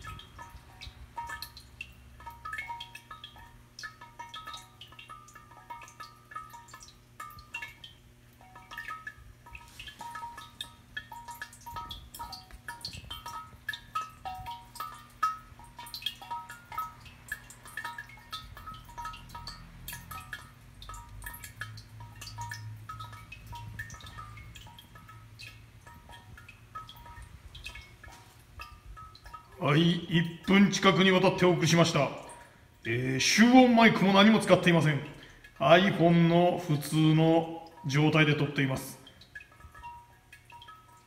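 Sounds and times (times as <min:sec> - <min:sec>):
water drops ringing in ceramic jar: 0:00.0 - 0:41.0.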